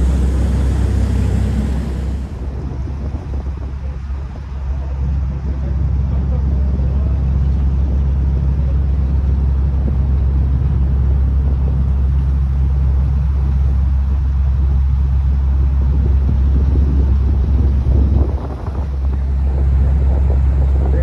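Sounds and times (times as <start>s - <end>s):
ferry engine drone: 0.0s - 21.0s
rushing wind noise: 0.0s - 21.0s.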